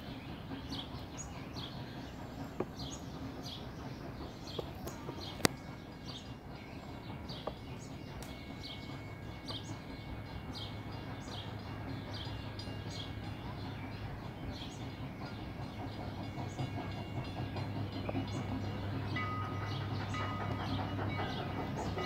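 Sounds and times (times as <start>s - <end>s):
steam train rumbling: 0.0s - 22.0s.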